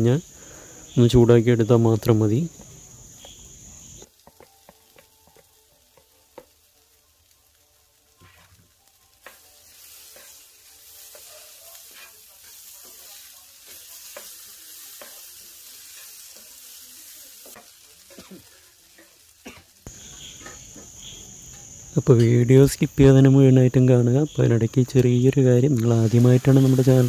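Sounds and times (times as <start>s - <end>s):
food sizzling in frying pan: 0.0s - 27.0s.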